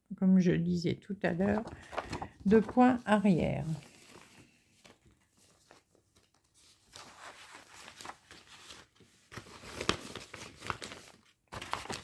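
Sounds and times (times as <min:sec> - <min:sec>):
paper and plastic rustling: 0:01.3 - 0:12.0.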